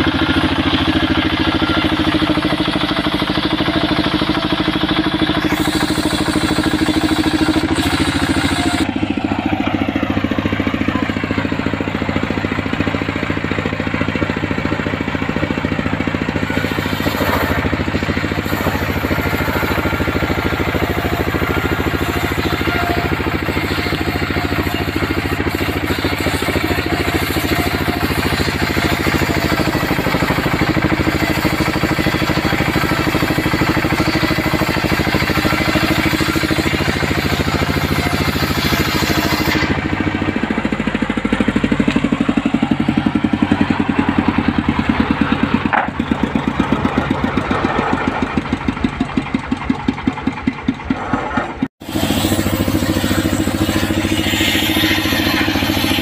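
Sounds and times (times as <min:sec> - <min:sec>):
circular sawmill blade cutting wood: 0:00.0 - 0:56.0.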